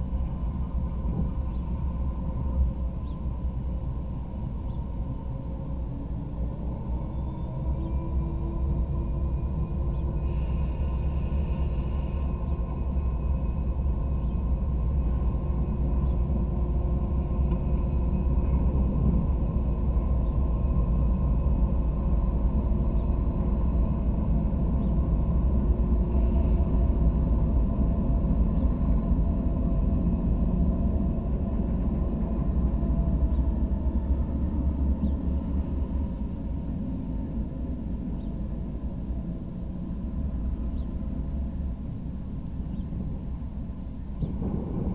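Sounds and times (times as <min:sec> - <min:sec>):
diesel locomotives rumbling: 0:00.0 - 0:44.9.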